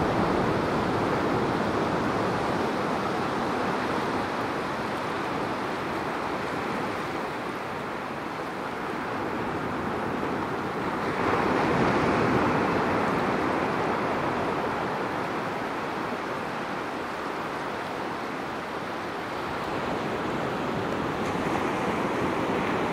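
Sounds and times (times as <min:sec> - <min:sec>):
ocean surf washing on rocks: 0:00.0 - 0:22.9.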